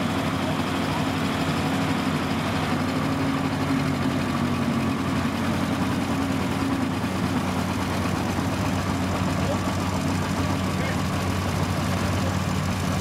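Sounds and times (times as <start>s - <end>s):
threshing machine running: 0.0s - 13.0s
tractor engine running: 0.0s - 13.0s.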